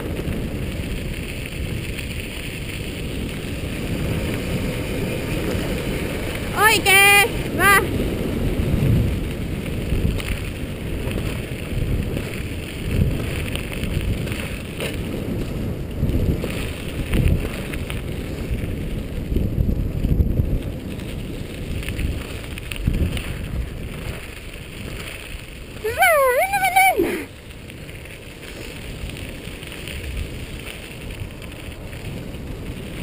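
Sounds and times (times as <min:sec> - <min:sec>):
tyres rolling on gravel: 0:00.0 - 0:33.0
wind buffeting microphone: 0:00.0 - 0:33.0.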